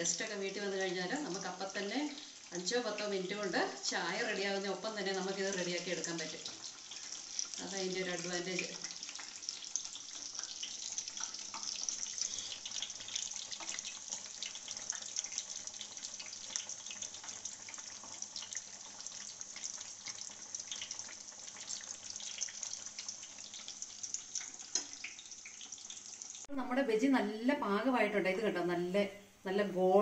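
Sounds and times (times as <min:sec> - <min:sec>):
food deep-frying in hot oil: 0:00.0 - 0:26.5.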